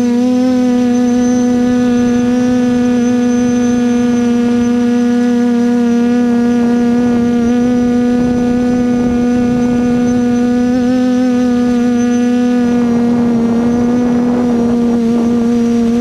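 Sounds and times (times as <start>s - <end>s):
drone motors humming: 0.0s - 16.0s.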